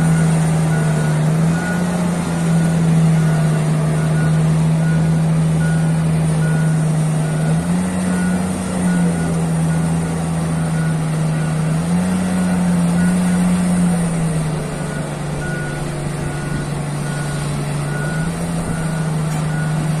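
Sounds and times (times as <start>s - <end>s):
excavator diesel engine droning: 0.0s - 20.0s
high warning beep: 0.0s - 20.0s.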